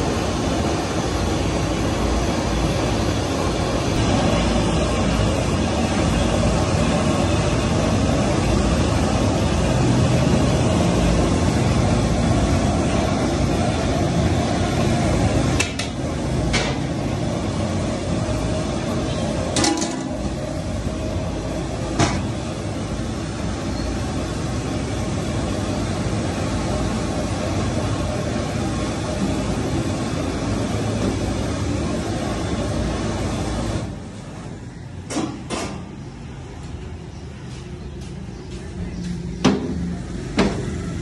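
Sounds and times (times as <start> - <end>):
stock boiling: 0.0 - 36.8
gas burner flame roaring: 0.0 - 41.0.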